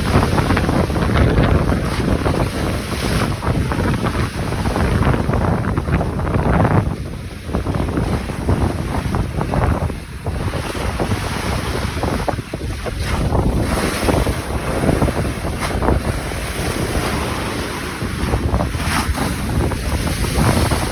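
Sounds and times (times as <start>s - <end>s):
waves crashing against seawall: 0.0s - 20.9s
wind buffeting microphone: 0.0s - 20.9s.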